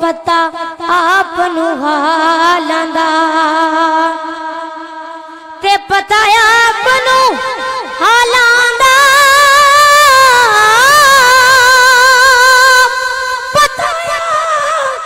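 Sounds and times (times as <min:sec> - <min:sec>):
boy singing into microphone: 0:00.0 - 0:15.0.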